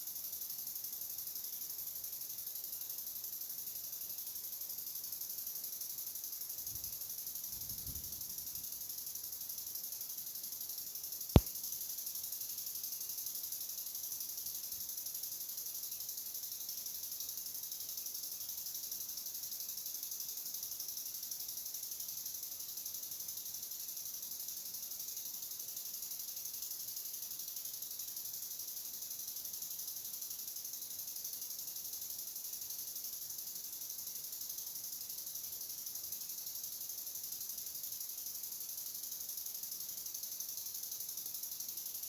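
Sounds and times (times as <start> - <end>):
steady high-pitched hiss: 0.0 - 42.0.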